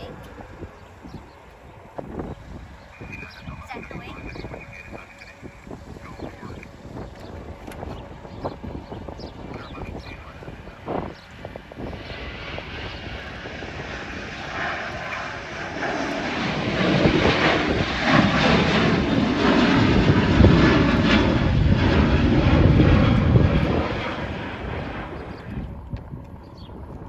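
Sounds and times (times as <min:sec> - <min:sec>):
airplane engines rumbling: 0:00.0 - 0:27.0.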